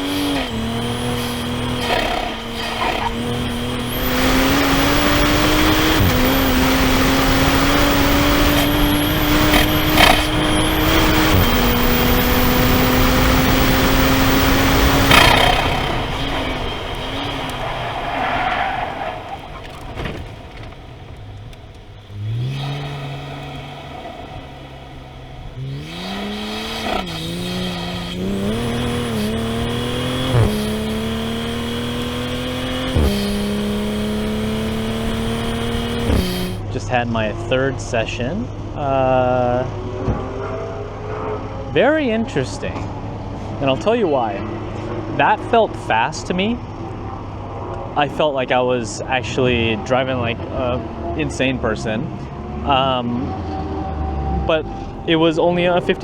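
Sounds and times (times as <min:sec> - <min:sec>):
car engine accelerating through gears: 0:00.0 - 0:37.3, 0:38.4 - 0:56.0.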